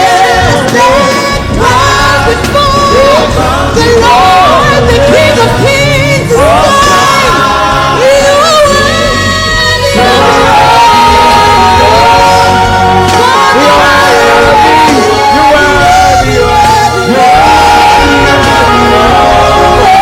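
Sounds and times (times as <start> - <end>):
band with low bass notes: 0.0 - 20.0
voices singing: 0.0 - 20.0.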